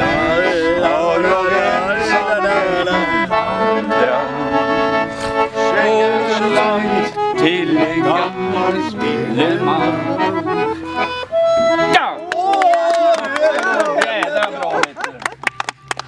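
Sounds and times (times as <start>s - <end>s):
accordion folk dance tune: 0.0s - 16.0s.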